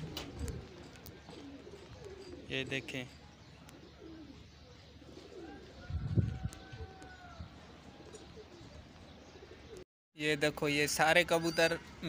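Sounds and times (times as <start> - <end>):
pigeons cooing: 0.0 - 9.8.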